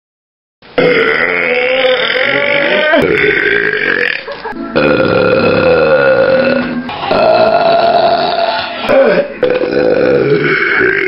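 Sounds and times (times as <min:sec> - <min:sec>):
boy burping loudly: 0:00.8 - 0:11.0.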